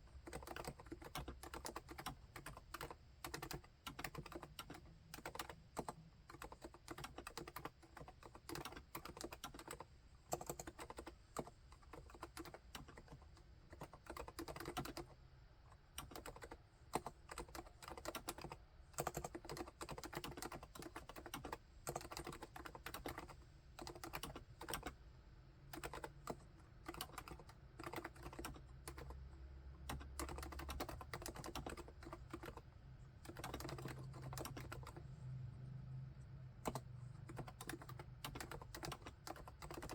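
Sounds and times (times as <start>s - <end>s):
soft muted keyboard typing: 0.1s - 39.9s.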